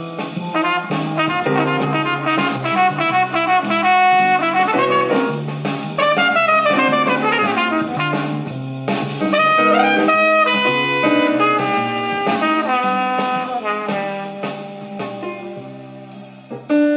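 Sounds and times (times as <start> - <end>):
jazz with brass over loudspeakers: 0.0 - 16.9.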